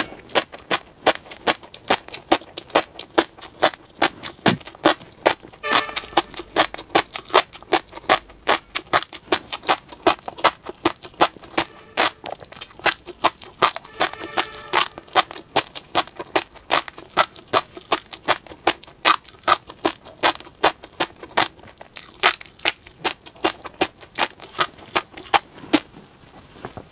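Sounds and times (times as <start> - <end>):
chewing with crisp pops: 0.0 - 26.3.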